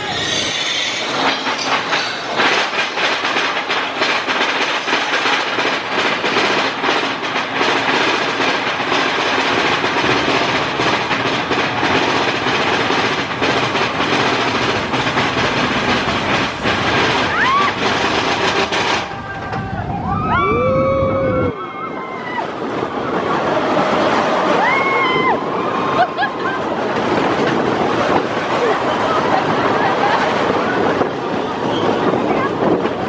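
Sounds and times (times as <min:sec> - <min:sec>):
roller coaster wheels rattling on rails: 0:00.0 - 0:33.0.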